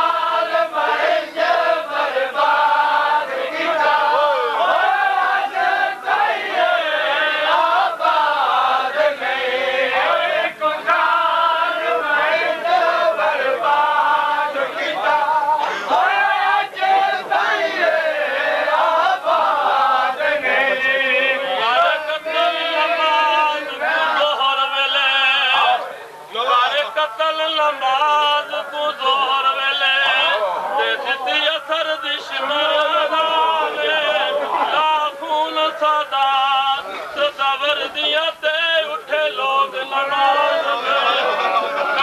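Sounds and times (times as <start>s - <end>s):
men chanting in unison: 0.0s - 42.0s.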